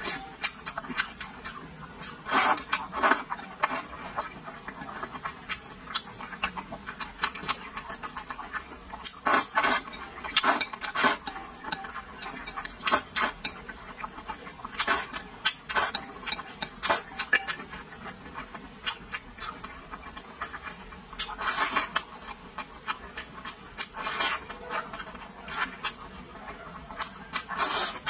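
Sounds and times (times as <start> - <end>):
wet chewing and lip smacks: 0.4 - 28.0.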